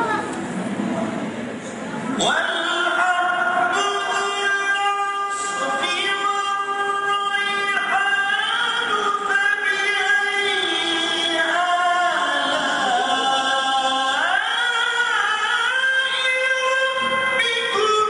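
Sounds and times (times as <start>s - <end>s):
man chanting into a microphone: 2.2s - 18.0s.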